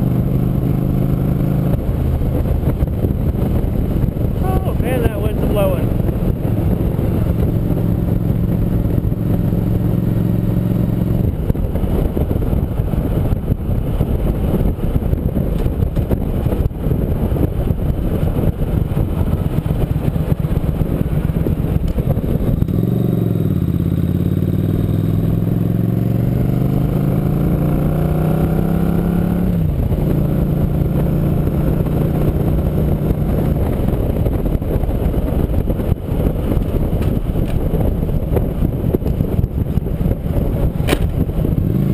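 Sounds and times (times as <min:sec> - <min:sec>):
motorcycle engine accelerating: 0:00.0 - 0:41.9
wind on microphone: 0:00.0 - 0:41.9.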